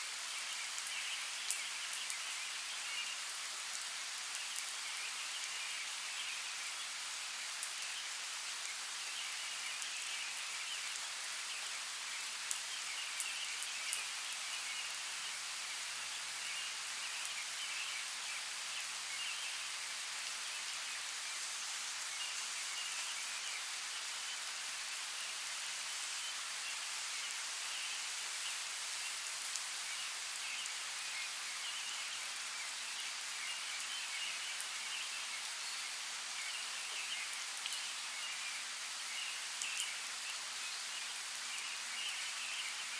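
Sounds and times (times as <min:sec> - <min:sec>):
rain hissing in forest: 0:00.0 - 0:42.9.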